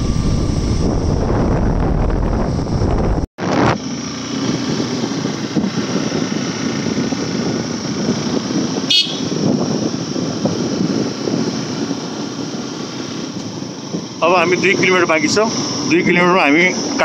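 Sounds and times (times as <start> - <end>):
motorcycle engine rumble: 0.0 - 17.0
wind noise on microphone: 0.0 - 17.0.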